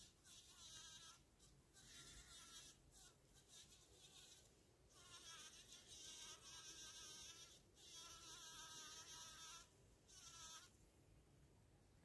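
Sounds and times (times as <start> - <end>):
bumble bee buzzing: 0.2 - 1.2, 1.8 - 10.7.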